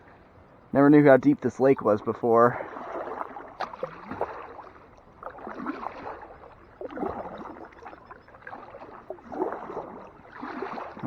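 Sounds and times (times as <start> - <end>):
paddle splashing water: 0.0 - 11.0.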